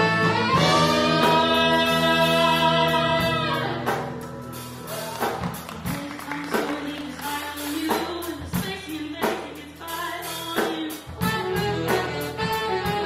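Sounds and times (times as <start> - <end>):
person singing: 0.0 - 3.9, 4.9 - 12.3
live band playing: 0.0 - 13.0.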